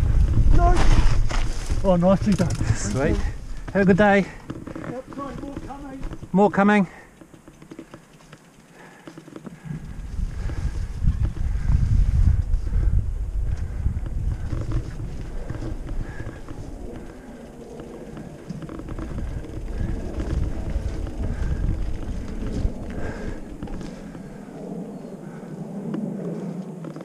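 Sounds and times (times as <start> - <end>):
bike rattling over bumps: 0.0 - 25.4
bike tyres on dirt: 0.0 - 27.0
wind buffeting microphone: 0.0 - 27.0.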